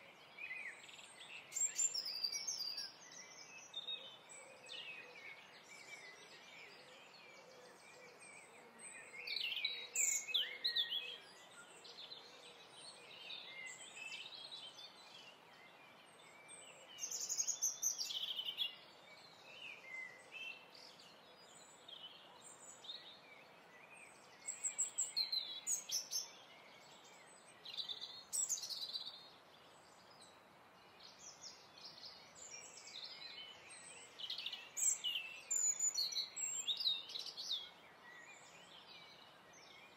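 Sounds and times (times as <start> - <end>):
birds chirping and trilling: 0.4 - 39.9.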